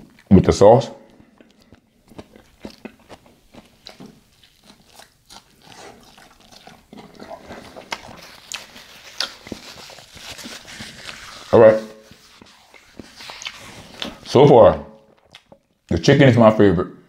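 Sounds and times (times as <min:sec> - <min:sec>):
person chewing a taco: 0:00.0 - 0:15.9.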